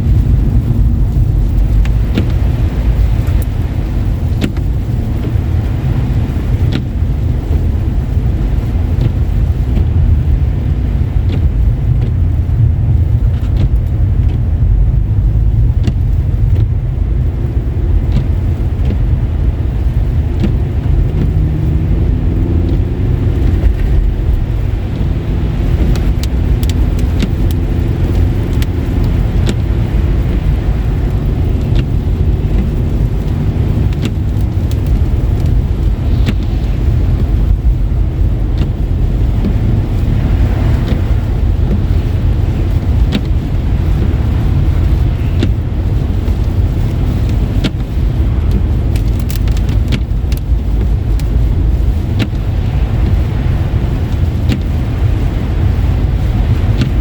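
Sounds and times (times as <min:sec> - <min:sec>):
tyres rumbling on wet road: 0:00.0 - 0:57.0.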